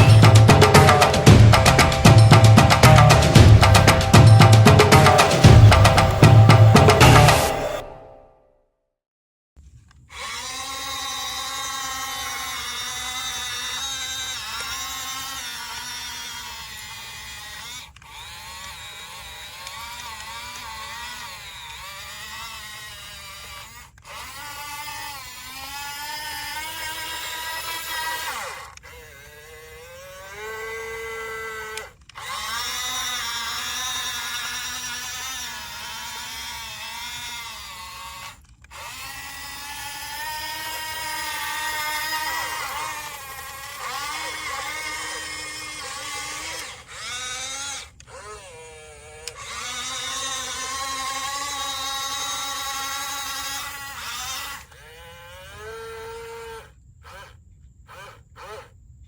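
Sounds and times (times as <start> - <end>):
electric motors whining: 0.0 - 8.0, 9.6 - 58.8.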